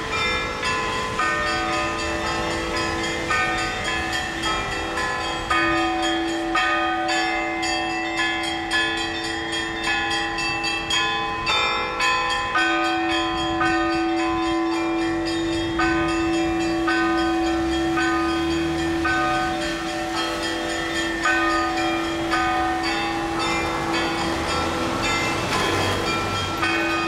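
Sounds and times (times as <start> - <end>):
low bell ringing: 0.0 - 27.0
small church bells struck quickly: 0.0 - 27.0.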